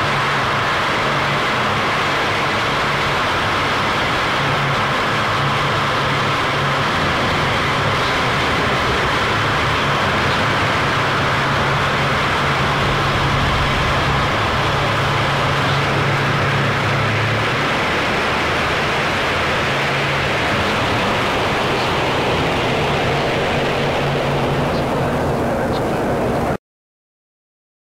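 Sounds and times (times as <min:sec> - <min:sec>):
distorted static noise: 0:00.0 - 0:26.6
low steady drone: 0:00.0 - 0:26.6.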